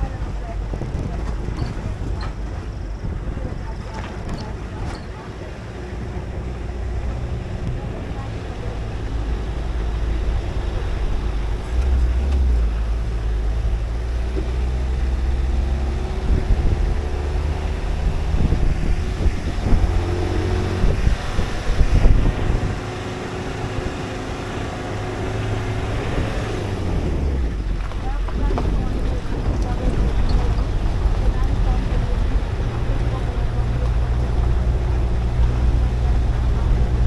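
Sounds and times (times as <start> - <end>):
vehicle engine rumbling: 0.0 - 37.0
vehicle jolts and rattles: 0.0 - 37.0.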